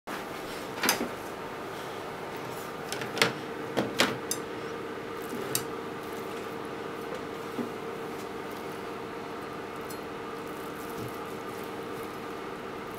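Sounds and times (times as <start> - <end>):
steady background hum: 0.1 - 12.9.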